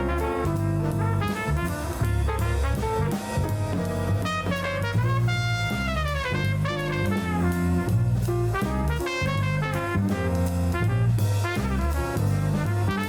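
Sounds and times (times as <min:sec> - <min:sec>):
upbeat jazz music: 0:00.0 - 0:13.0.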